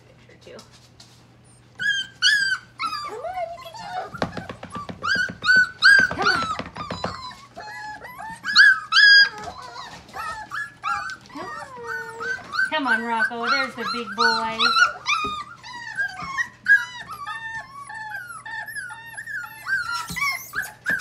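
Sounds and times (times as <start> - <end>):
paws scrabbling on wood: 0.1 - 18.4
puppies whining and yipping: 1.3 - 21.0.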